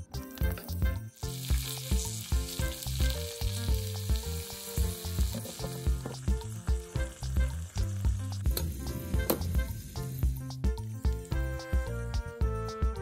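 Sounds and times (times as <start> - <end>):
background music with steady beat: 0.0 - 13.0
fries sizzling in hot oil: 0.1 - 12.2.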